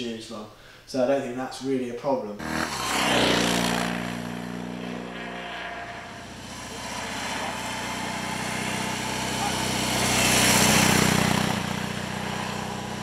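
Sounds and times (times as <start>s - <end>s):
motorcycle engine passing: 2.4s - 13.0s.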